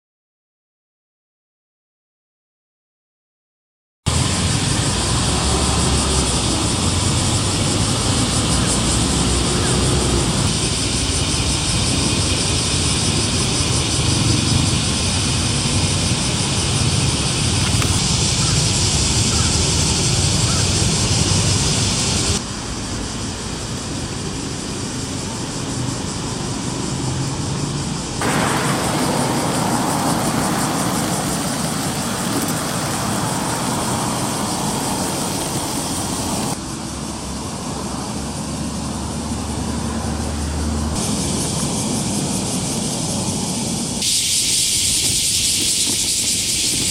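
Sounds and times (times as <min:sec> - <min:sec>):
cicadas singing: 0:04.1 - 0:46.9
road traffic: 0:04.1 - 0:46.9.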